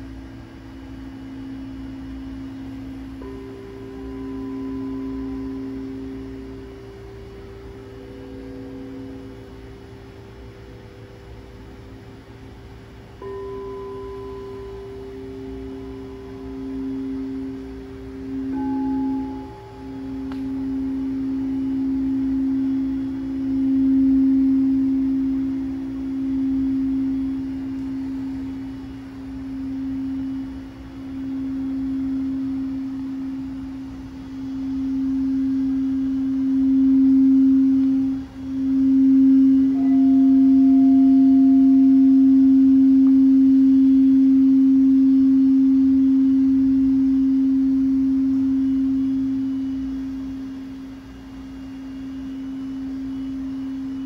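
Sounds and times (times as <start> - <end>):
faint higher bowl tone: 0.0 - 54.0
singing bowl low tone: 0.0 - 54.0.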